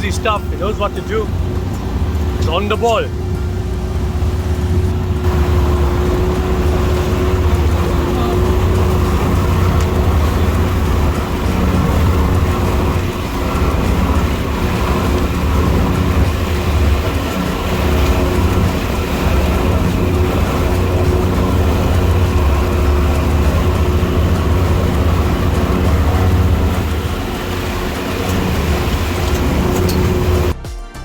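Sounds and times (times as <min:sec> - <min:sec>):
boat engine droning: 0:00.0 - 0:30.6
wind and water rushing: 0:00.0 - 0:30.6.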